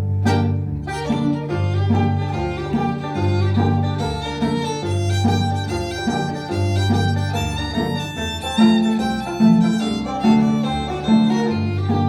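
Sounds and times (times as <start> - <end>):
bowed fiddle: 0.0 - 12.0
low bowed-string notes: 0.0 - 12.0.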